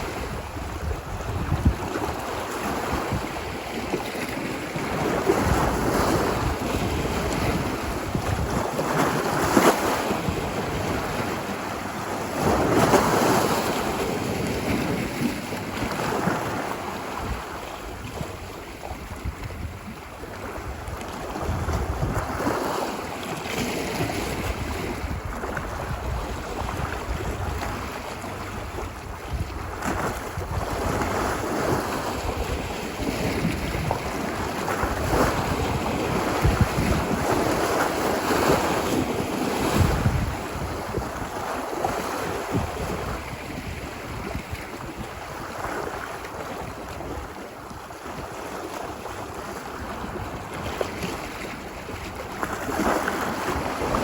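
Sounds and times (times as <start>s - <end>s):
ocean surf washing ashore: 0.0s - 54.0s.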